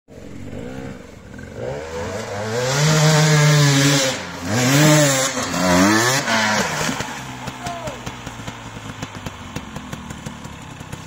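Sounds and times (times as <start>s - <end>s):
motorcycle engine revving: 0.1s - 11.0s.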